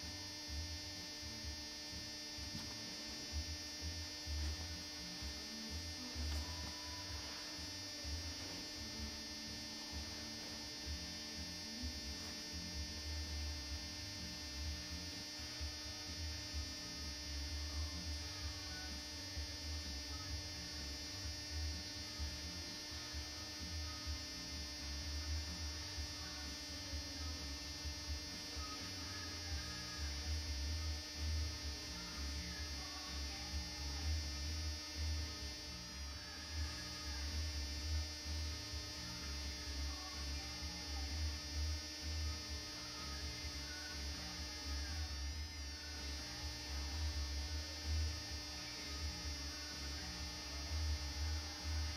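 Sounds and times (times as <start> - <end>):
faint high whine: 0.0 - 51.9
low electrical hum: 0.0 - 51.9.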